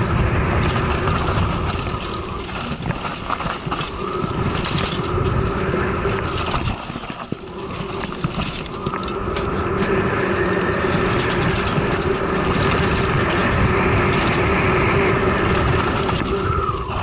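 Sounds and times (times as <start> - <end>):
bike rattling and knocking: 0.0 - 17.0
bike tyres rumbling on rocky trail: 0.0 - 17.0.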